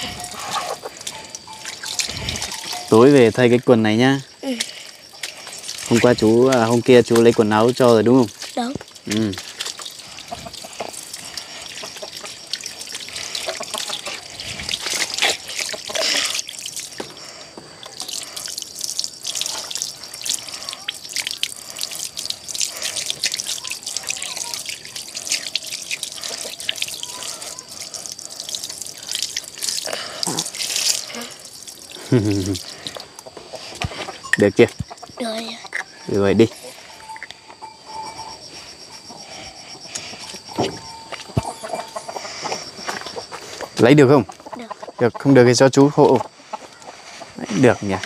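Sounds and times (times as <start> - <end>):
water drips: 0.0 - 44.8
water trickling and splashing: 0.0 - 48.0.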